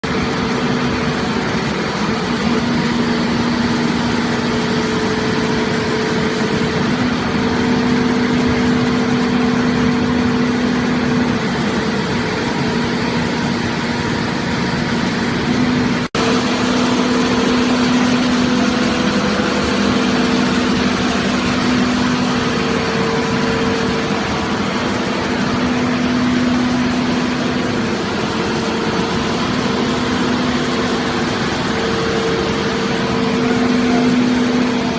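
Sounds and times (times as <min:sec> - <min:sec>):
heavy machinery engine hum: 0:00.0 - 0:34.9.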